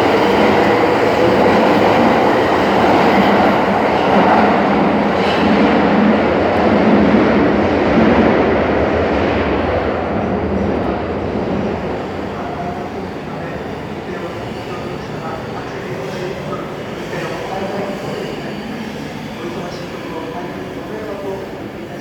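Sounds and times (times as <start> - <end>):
underground train running: 0.0 - 22.0.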